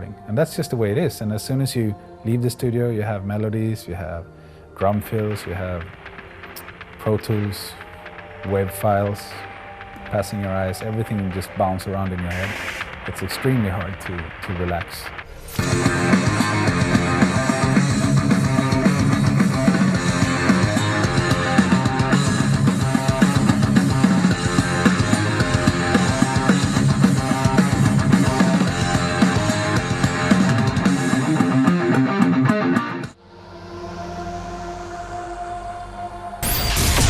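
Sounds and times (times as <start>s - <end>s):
heavy metal music: 2.3s - 37.0s.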